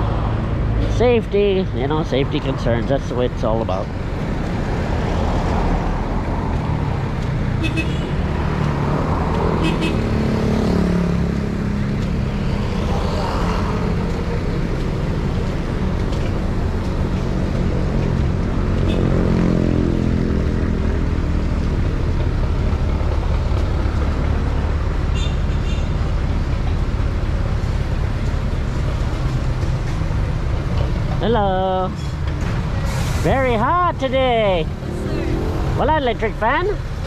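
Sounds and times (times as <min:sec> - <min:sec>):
road traffic passing: 0:00.0 - 0:37.0.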